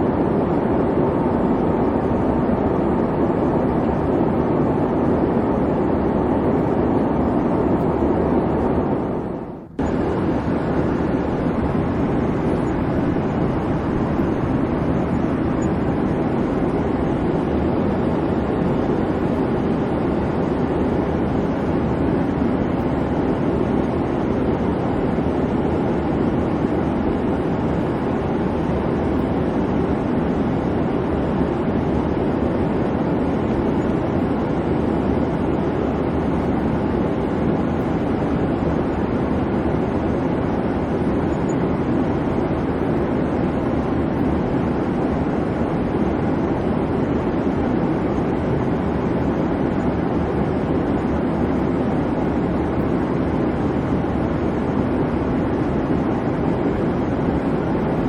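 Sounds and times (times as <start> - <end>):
airplane engines rumbling: 0.0 - 58.0.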